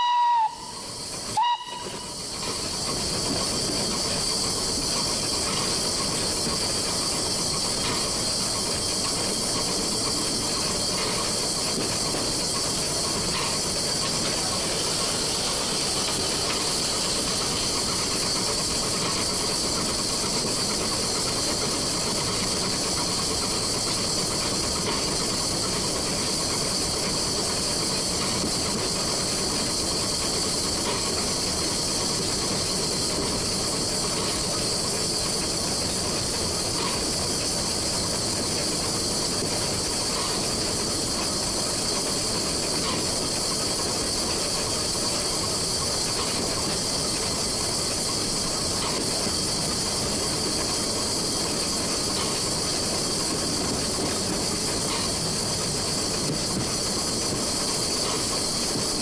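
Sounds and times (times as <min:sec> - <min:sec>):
steam hissing: 0:00.0 - 0:59.0
train rumbling on track: 0:00.0 - 0:59.0
faint rail clicks: 0:00.6 - 0:59.0.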